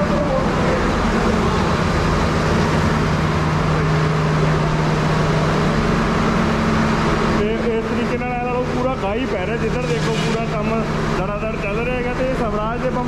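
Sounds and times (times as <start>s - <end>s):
workshop machinery din: 0.0s - 13.0s.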